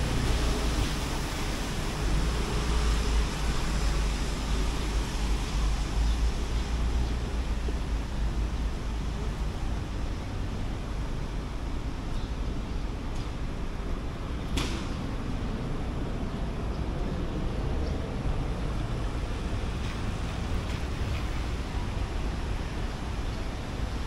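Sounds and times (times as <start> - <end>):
traffic rumble and hiss: 0.0 - 24.0.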